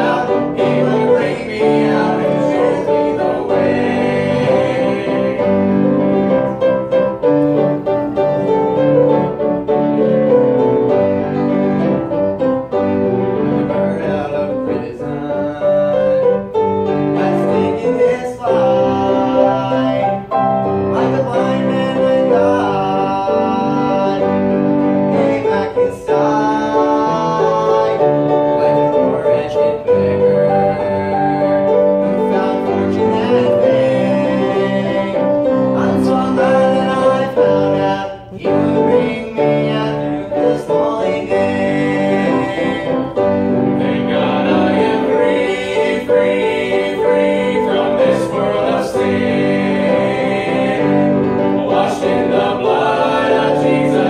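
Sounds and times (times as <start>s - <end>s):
instrumental accompaniment: 0.0s - 54.0s
male trio singing in harmony: 0.0s - 54.0s.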